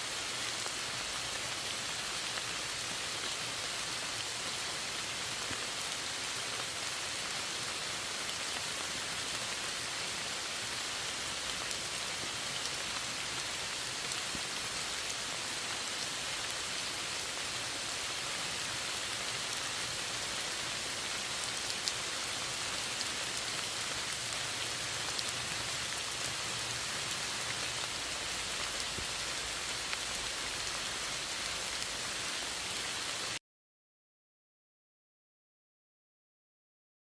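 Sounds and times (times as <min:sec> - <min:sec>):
steady rainfall: 0:00.0 - 0:33.4.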